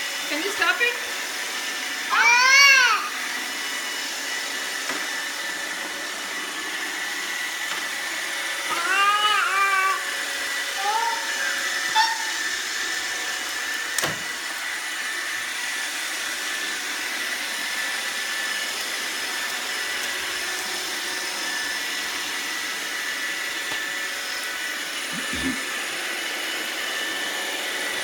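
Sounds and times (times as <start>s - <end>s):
robot vacuum whirring: 0.1s - 28.0s.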